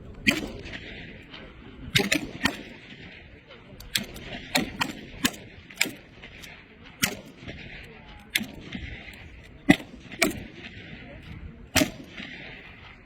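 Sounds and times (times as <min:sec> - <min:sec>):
rifle shots: 0:00.0 - 0:13.0.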